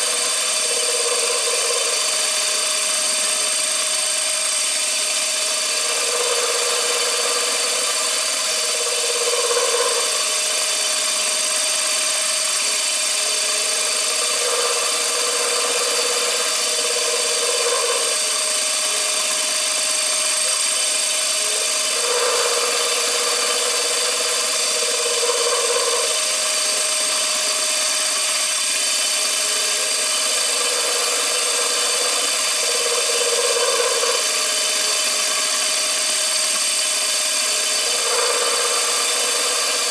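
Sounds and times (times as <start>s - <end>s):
low machine hum: 0.0s - 39.9s
machine whine with high tones: 0.0s - 39.9s.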